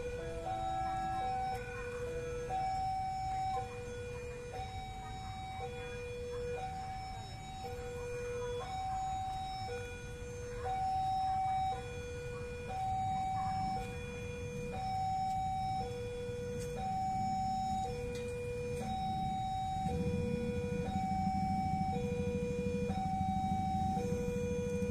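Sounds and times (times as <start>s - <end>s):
motorcycle engines idling: 0.0s - 24.9s
two-tone crossing alarm chime: 0.0s - 24.9s.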